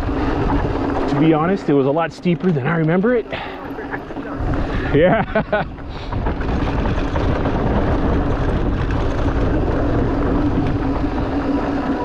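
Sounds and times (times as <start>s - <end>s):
bike rattling: 0.0s - 12.0s
tyres rumbling on dirt: 0.0s - 12.0s
wind buffeting: 0.0s - 12.0s.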